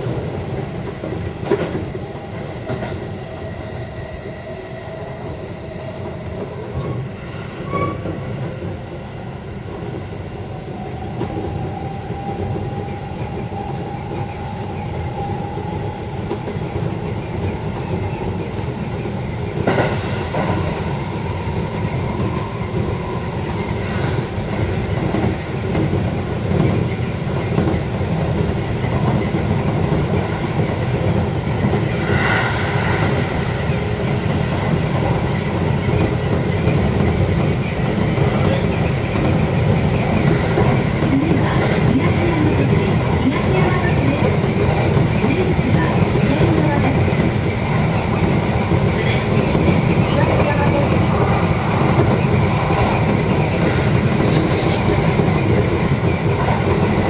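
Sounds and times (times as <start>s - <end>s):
train rolling and motor noise: 0.0s - 57.0s.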